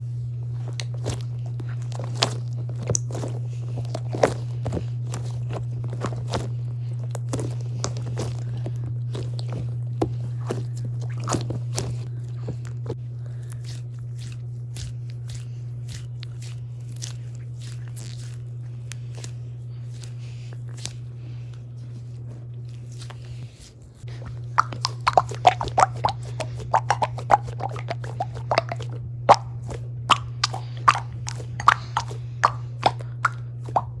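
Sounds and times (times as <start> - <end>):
steady low hum: 0.0 - 34.0
squishy toys crackling and clicking: 0.6 - 21.6, 22.7 - 34.0.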